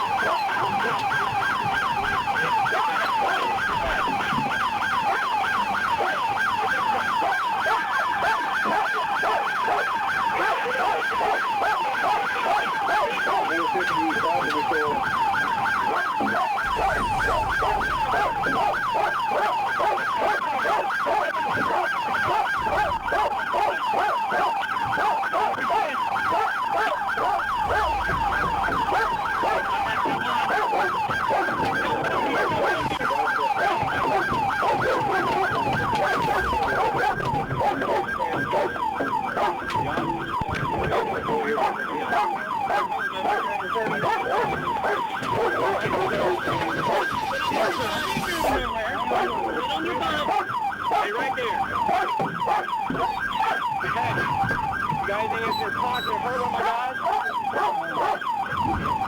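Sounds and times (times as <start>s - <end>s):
police siren yelping: 0.0s - 59.0s.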